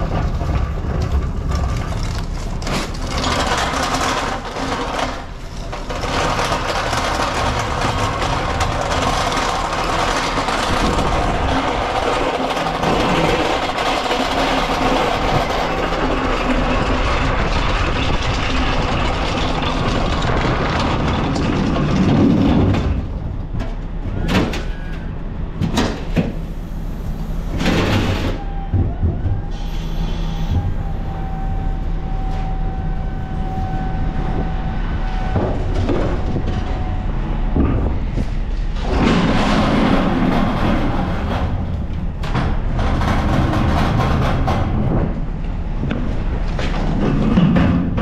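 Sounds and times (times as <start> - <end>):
heavy vehicle engine running: 0.0 - 48.0
steady whine: 1.6 - 42.8.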